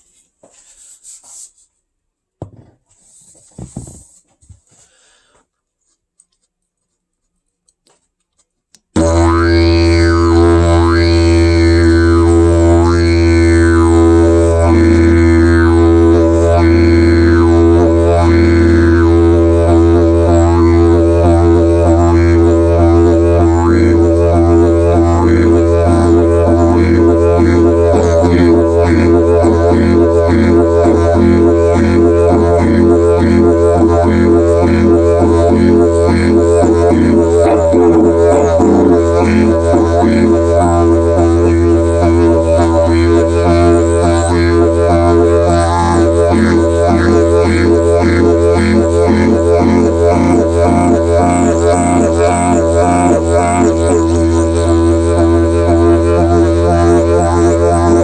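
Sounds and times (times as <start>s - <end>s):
didgeridoo drone: 9.0s - 58.0s
rhythmic didgeridoo pulses: 9.0s - 58.0s.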